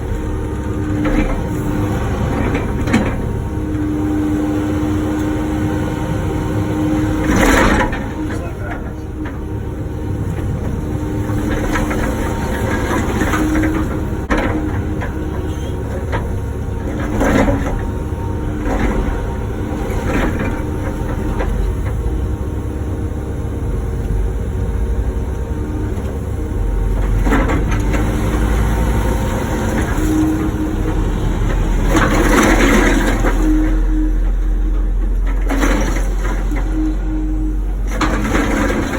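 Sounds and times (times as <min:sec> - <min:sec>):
excavator engine drone: 0:00.0 - 0:38.9
hydraulic whine: 0:00.0 - 0:38.9.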